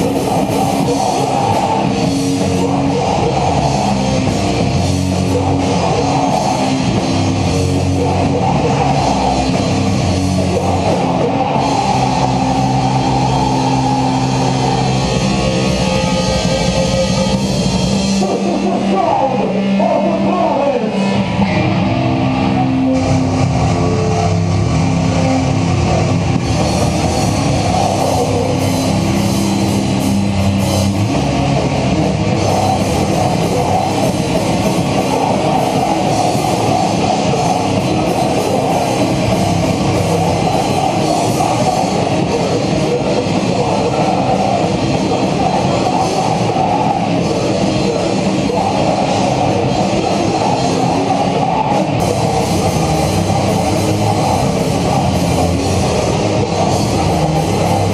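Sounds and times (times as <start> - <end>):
bass guitar: 0.0 - 57.9
distorted electric guitars: 0.0 - 57.9
pounding drum kit: 0.0 - 57.9.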